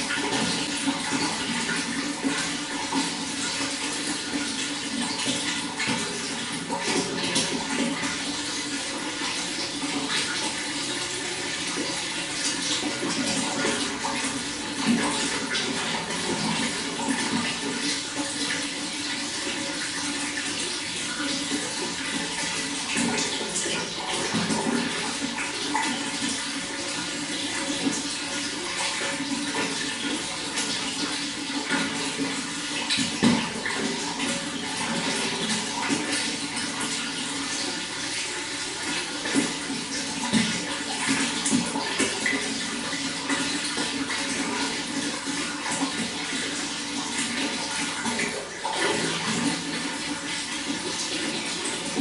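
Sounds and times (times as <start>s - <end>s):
running water gurgling: 0.0s - 52.0s.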